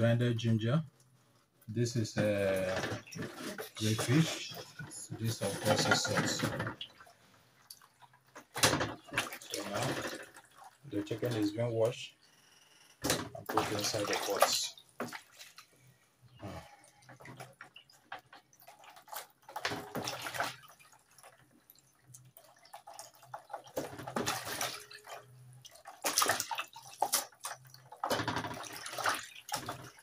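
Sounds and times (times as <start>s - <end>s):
water splashing in basin: 2.2s - 11.9s, 13.1s - 15.7s, 16.6s - 30.0s.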